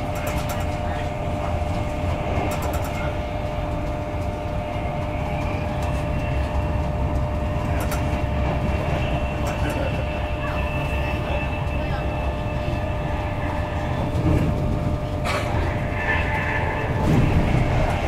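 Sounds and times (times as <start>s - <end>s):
constant hum: 0.0s - 18.0s
train wheels rumbling on rails: 0.0s - 18.0s.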